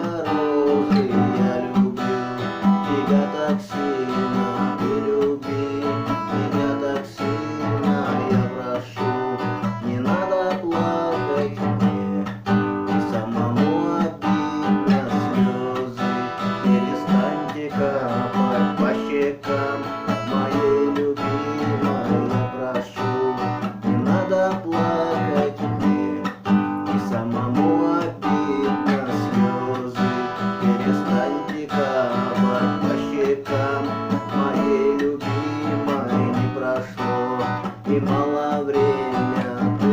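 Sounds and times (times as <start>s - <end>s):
acoustic guitar strummed and picked: 0.0s - 39.9s.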